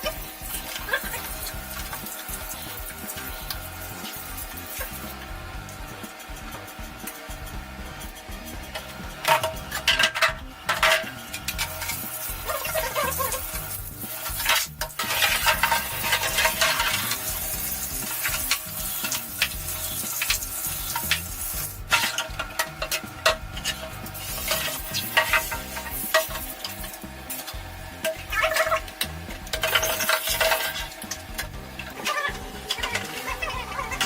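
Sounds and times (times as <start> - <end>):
faint background music: 0.0 - 34.0
steady hissing: 0.0 - 34.0.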